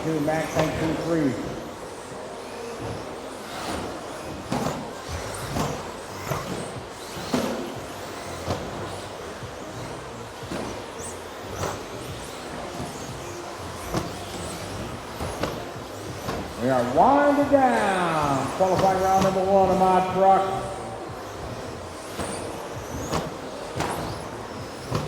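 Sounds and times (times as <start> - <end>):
model trucks running: 0.0 - 25.0.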